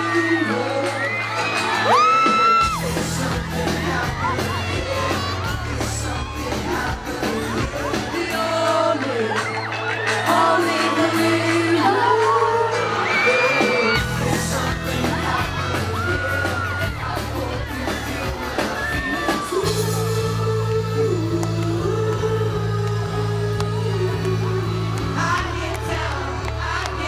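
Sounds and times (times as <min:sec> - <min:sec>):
crowd whooping and singing along: 0:00.0 - 0:27.0
lead singing: 0:00.0 - 0:27.0
pop band playing live: 0:00.0 - 0:27.0.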